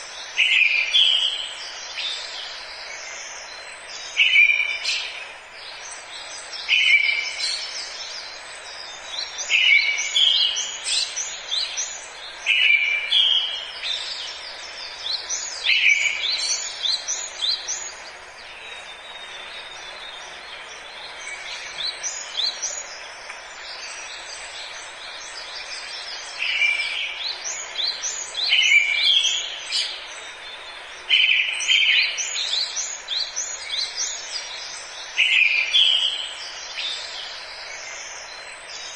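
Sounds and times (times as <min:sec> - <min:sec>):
songbirds singing: 0:00.0 - 0:38.9
steady hiss: 0:00.0 - 0:38.9.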